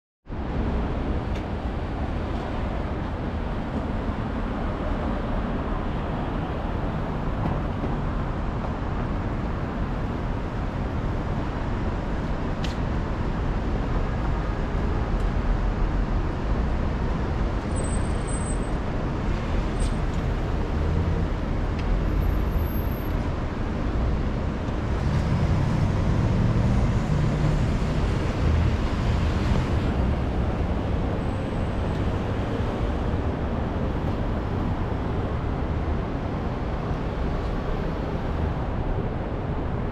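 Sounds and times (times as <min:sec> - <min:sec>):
street traffic passing: 0:00.3 - 0:39.9.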